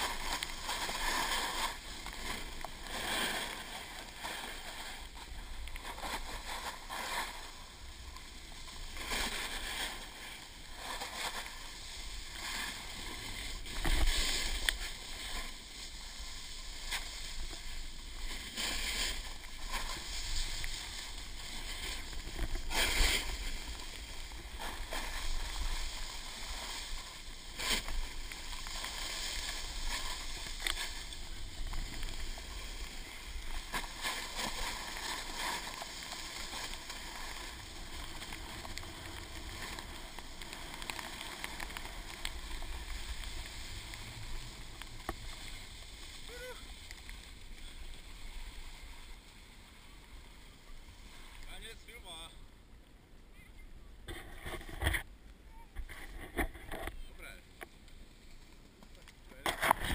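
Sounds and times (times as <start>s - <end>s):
snowboard scraping snow: 0.0s - 52.2s.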